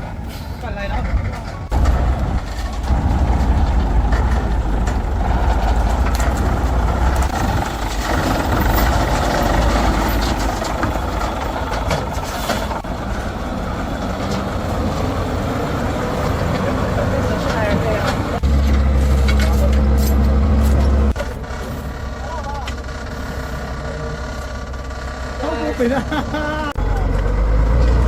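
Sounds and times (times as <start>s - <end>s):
heavy truck engine rumbling: 0.0s - 28.0s.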